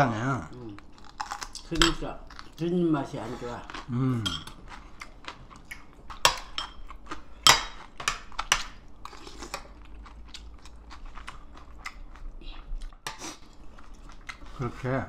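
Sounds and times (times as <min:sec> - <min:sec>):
chewing: 0:00.5 - 0:14.7.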